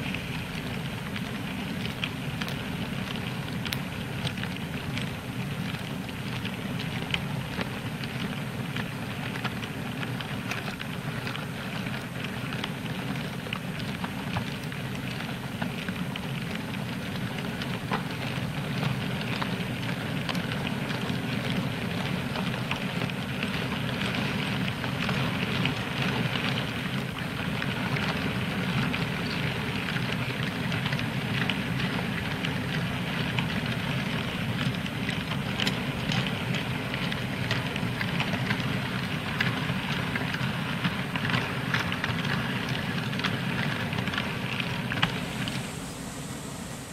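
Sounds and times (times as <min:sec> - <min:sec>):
model train wagons rolling on track: 0:00.0 - 0:46.9.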